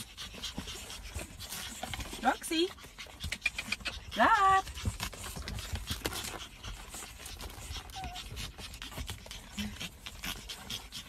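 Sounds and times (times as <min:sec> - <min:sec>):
puppies panting: 0:00.0 - 0:11.0.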